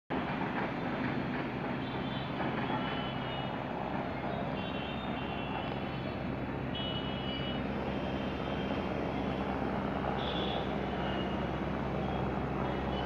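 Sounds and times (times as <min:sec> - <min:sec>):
helicopter rotor and engine: 0:00.2 - 0:13.0.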